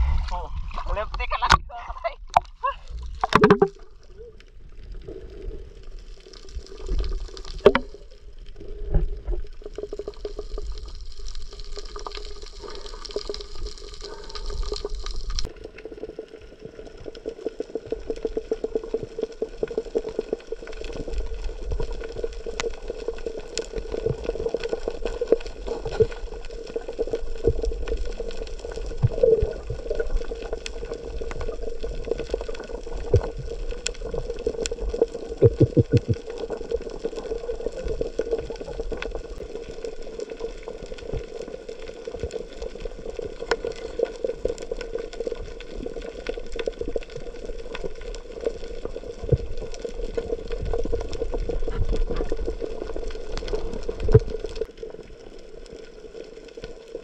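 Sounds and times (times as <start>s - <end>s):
moving water: 0.0s - 57.0s
fine crackling clicks: 5.8s - 57.0s.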